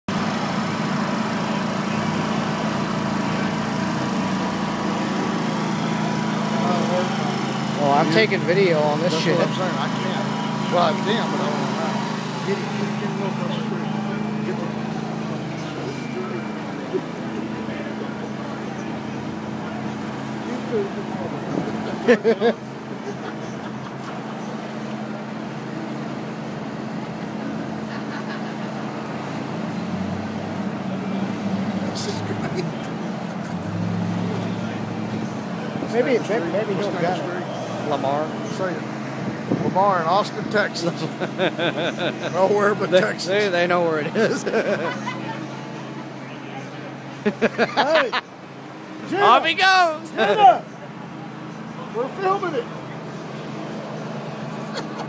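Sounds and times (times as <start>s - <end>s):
street traffic: 0.0s - 55.0s
riding lawnmower engine: 0.1s - 55.0s.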